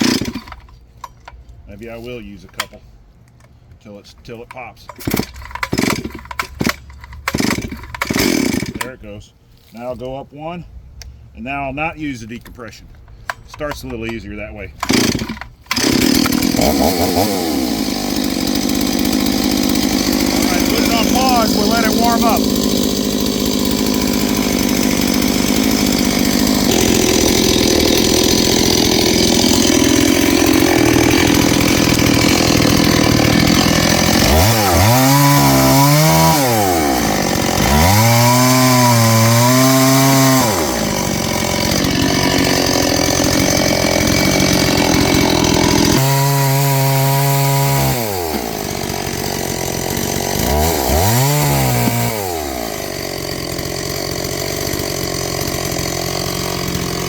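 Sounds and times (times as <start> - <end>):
chainsaw idling and revving: 0.0 - 0.8, 4.9 - 9.0, 13.5 - 57.0.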